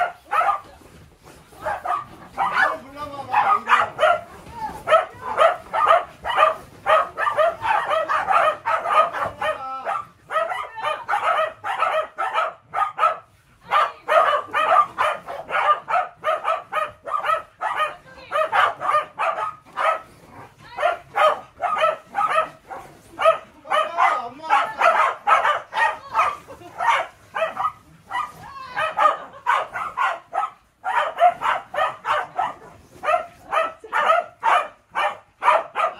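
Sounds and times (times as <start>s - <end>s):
dogs barking rapidly: 0.0s - 35.9s.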